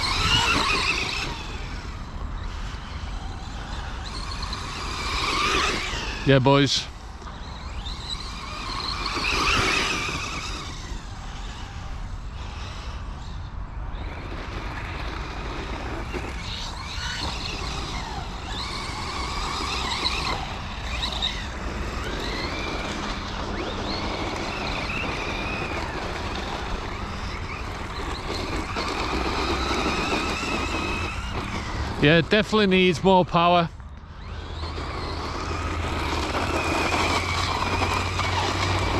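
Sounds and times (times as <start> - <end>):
rc car electric motor whine: 0.0 - 38.9.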